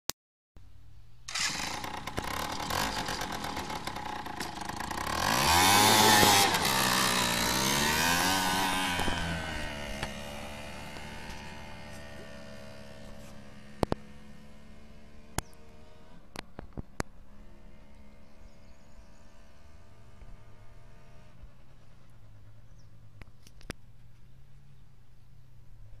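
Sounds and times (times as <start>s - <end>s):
small petrol engine revving: 1.3s - 16.4s, 17.1s - 22.9s.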